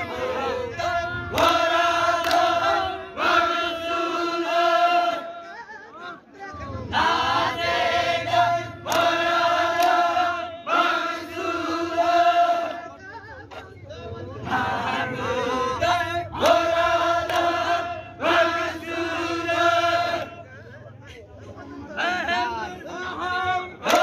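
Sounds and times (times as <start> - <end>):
men chanting a devotional song: 0.0 - 24.0.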